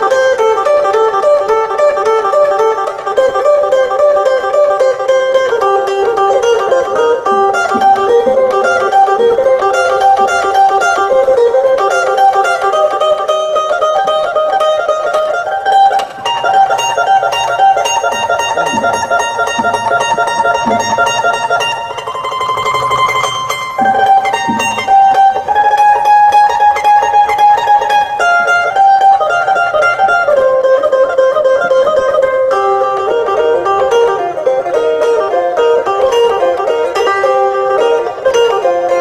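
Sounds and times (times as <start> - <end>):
plucked lute folk music: 0.0 - 39.0.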